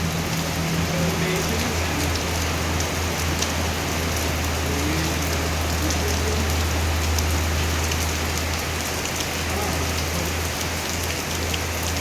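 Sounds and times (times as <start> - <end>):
heavy rain falling: 0.0 - 12.0
raindrop ticks: 0.1 - 12.0.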